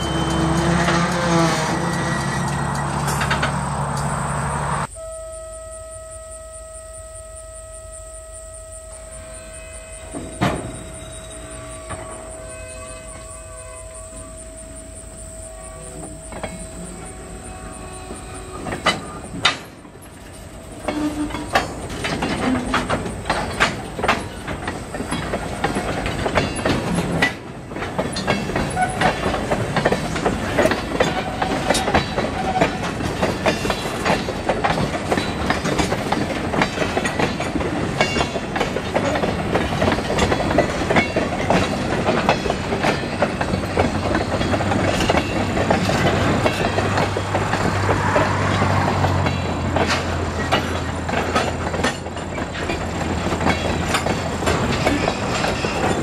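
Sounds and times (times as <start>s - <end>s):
train car knocks and rattles: 0.0s - 4.1s, 9.7s - 15.2s, 15.8s - 56.0s
train wheels clacking over rail joints: 0.0s - 4.3s, 9.8s - 56.0s.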